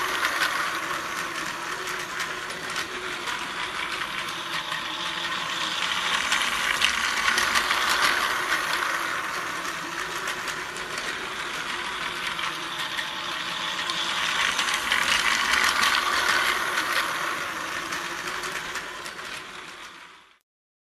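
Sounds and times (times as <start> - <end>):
toy train motor whirring: 0.0 - 20.4
wheels clicking on plastic track: 0.0 - 20.4.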